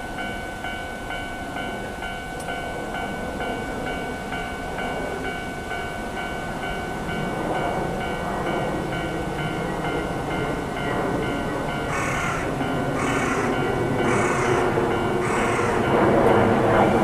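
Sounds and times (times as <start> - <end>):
level crossing warning bell: 0.0 - 17.0
train rumbling: 0.0 - 17.0.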